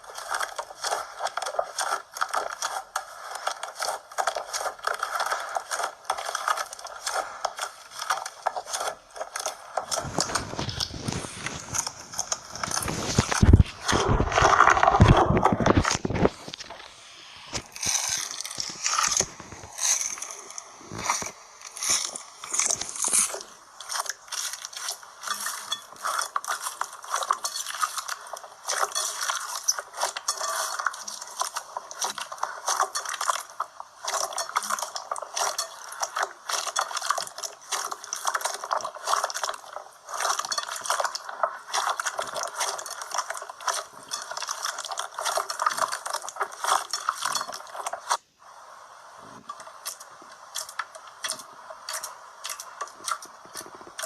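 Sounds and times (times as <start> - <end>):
slime crackling and popping: 0.0 - 48.3, 49.4 - 54.0.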